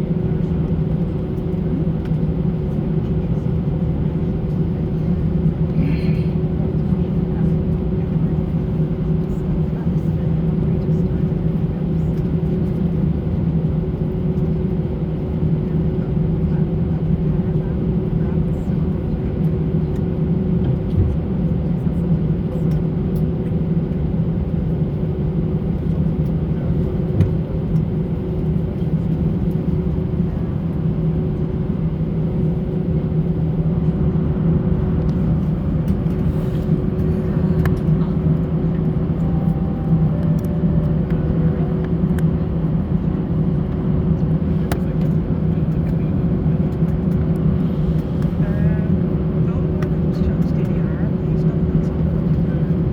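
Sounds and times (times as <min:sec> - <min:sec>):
engine and airframe rumble: 0:00.0 - 0:52.9.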